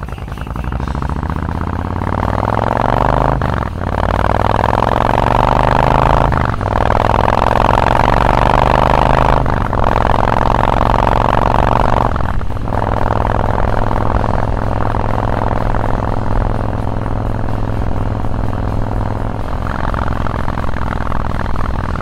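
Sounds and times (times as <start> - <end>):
motorcycle accelerating through gears: 0.0 - 22.0.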